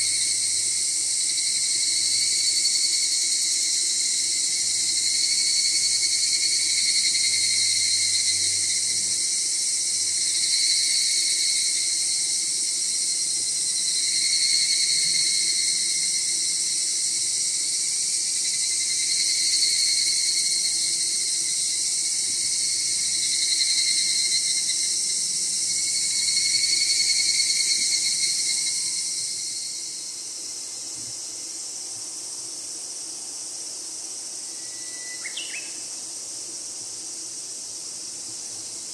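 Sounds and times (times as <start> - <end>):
high hiss: 0.0 - 38.9
insects chorus droning: 0.0 - 38.9.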